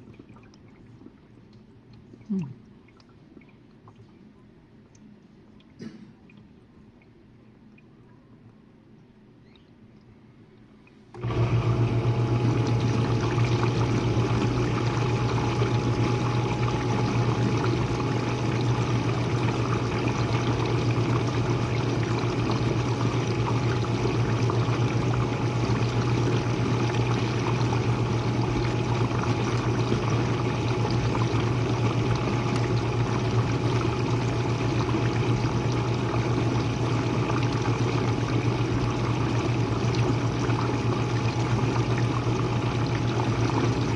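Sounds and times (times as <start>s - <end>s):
dishwasher pump humming: 0.0s - 2.6s, 10.8s - 43.9s.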